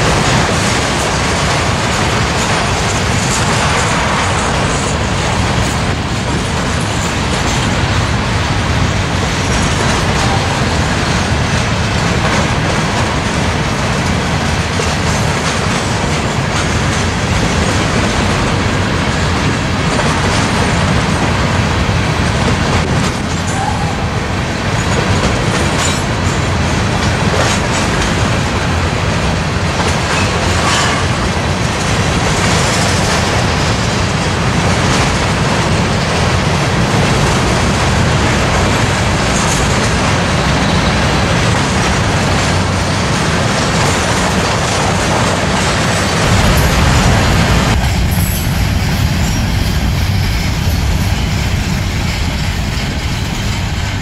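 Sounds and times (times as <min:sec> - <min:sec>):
freight train rolling past: 0:00.0 - 0:54.0
wheels clacking on rail: 0:00.0 - 0:54.0.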